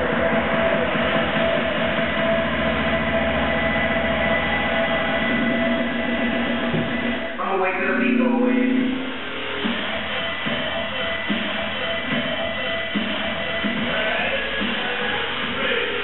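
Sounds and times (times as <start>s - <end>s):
rowing machine fans whirring: 0.0s - 8.0s, 8.8s - 16.0s.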